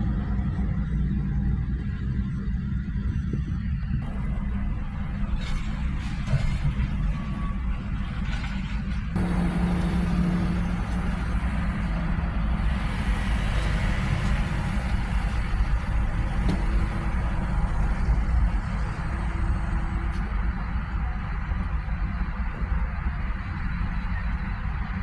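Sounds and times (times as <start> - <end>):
faint engine tone: 0.0 - 25.0
road traffic rumble: 0.0 - 25.0.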